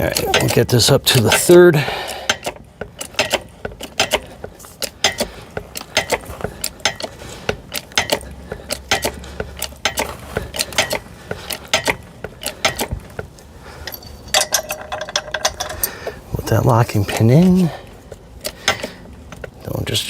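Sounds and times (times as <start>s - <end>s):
hydraulic jack metallic clicks: 0.0s - 16.2s.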